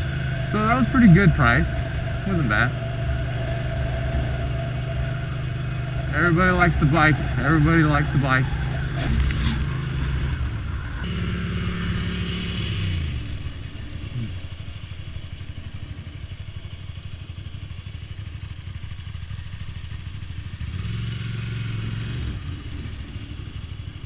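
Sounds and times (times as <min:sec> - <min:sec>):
motorcycle engine revving and idling: 0:00.0 - 0:24.0.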